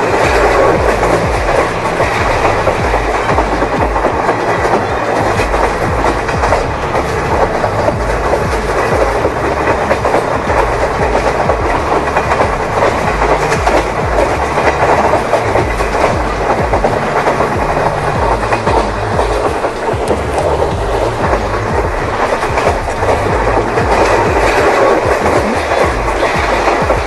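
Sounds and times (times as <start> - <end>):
train wheels clickety-clack: 0.0 - 27.0.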